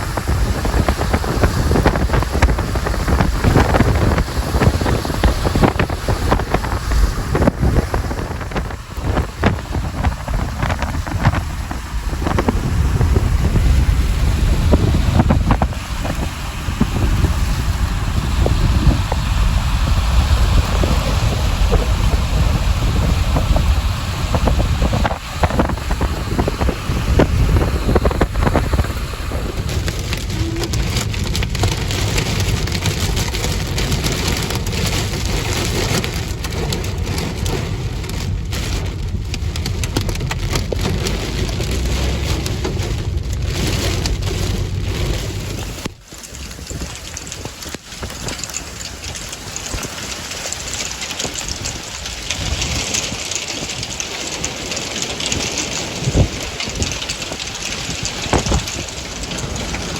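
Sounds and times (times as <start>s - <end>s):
heavy rain on vehicle roof: 0.0s - 59.9s
road and wind rumble: 0.0s - 59.9s.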